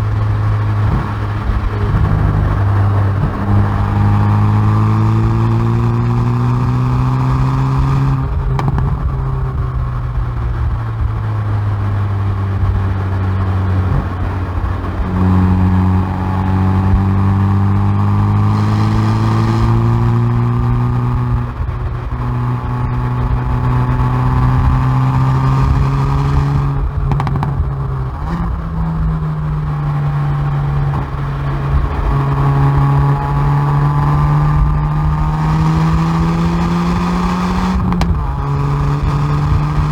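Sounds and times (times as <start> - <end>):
car exhaust under hard acceleration: 0.0 - 39.9
exhaust cracks: 0.0 - 39.9.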